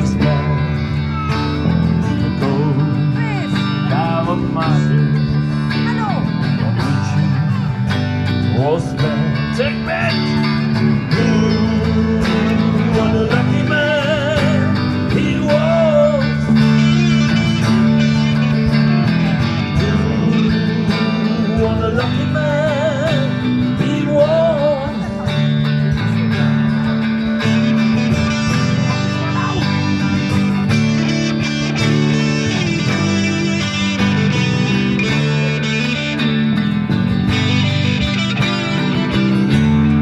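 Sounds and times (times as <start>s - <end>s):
guitar lead melody: 0.0s - 40.0s
strummed guitar chords: 0.0s - 40.0s.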